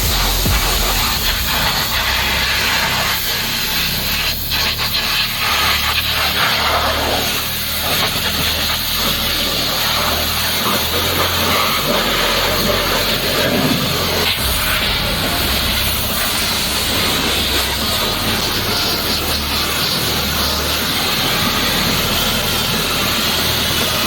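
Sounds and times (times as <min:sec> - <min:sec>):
low motor hum: 0:00.0 - 0:05.8, 0:08.5 - 0:24.0
pressure washer spraying water: 0:00.0 - 0:24.0.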